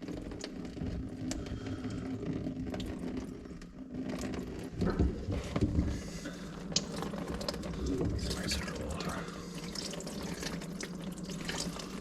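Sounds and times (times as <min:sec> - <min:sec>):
water pouring from drain pipe: 0:00.0 - 0:12.0.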